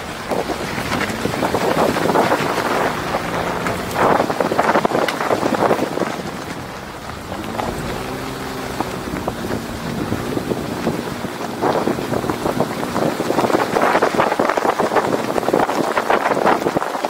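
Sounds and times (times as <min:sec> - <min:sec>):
truck engine: 0:00.0 - 0:16.8
tyres crunching over gravel: 0:00.0 - 0:17.0
wind buffeting microphone: 0:00.0 - 0:17.0.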